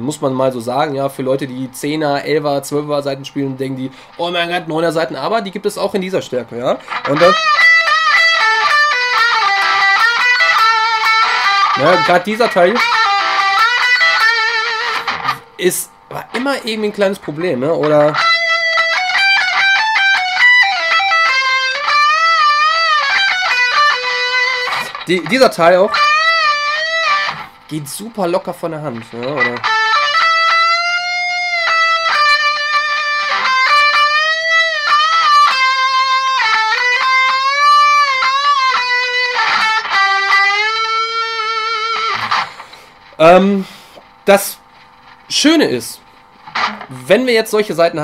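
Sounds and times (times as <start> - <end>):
electric guitar lead phrase: 6.8 - 43.8, 46.5 - 48.0.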